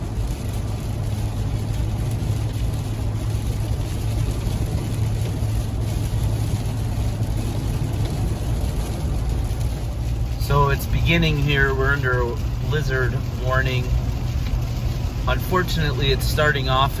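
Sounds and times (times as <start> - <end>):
low vehicle drone: 0.0 - 17.0.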